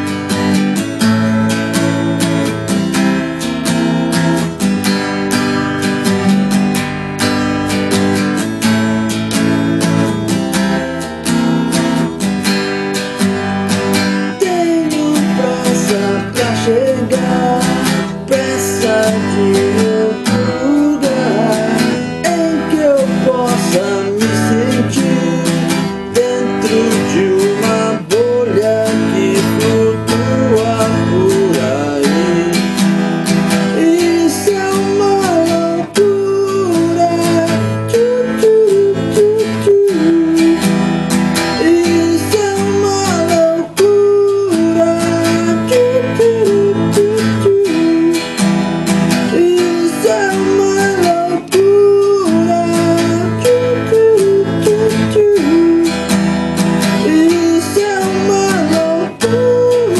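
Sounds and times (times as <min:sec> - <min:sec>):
bending lead guitar melody: 0:00.0 - 0:59.9
strummed acoustic guitar: 0:00.0 - 0:59.9.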